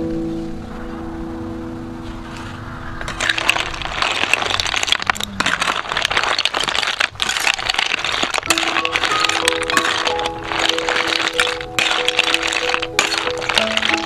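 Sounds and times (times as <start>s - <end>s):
snails sizzling in a pan: 2.1s - 14.0s.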